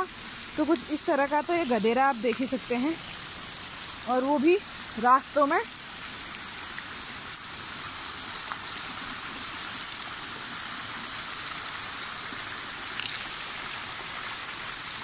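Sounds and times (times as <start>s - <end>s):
heavy rain: 0.0s - 15.0s
rainwater rushing down stony path: 0.0s - 15.0s.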